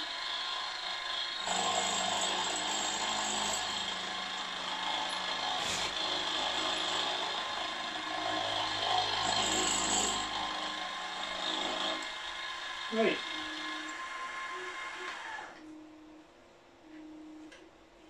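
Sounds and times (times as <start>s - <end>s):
milling machine cutting metal: 0.0s - 15.5s.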